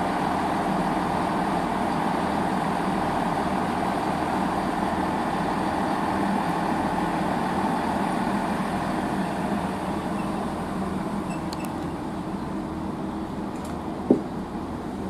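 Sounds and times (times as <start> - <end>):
diesel engines idling: 0.0 - 15.0
electric train pulling in: 0.0 - 15.0.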